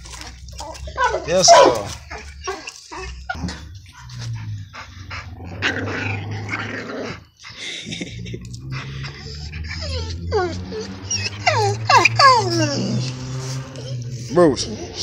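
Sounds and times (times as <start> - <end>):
dogs whining: 0.0 - 7.6, 8.5 - 15.0
dogs growling low: 0.0 - 15.0.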